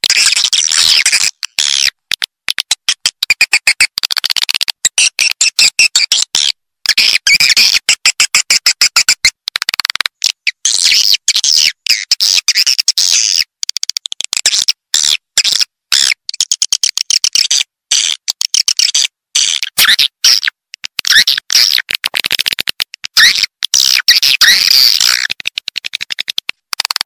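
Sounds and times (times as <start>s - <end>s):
swiftlet clicks and chirps: 0.0s - 27.0s.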